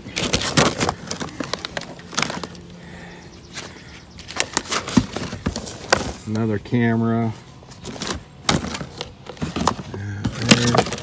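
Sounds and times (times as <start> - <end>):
cameras and papers being handled: 0.0 - 2.8, 3.4 - 6.5, 7.5 - 11.0
faint steady hum: 0.0 - 11.0.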